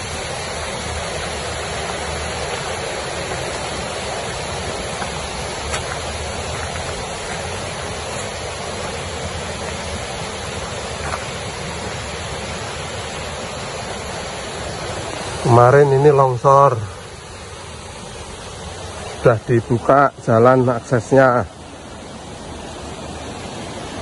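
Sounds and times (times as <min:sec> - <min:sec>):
river rushing: 0:00.0 - 0:24.0.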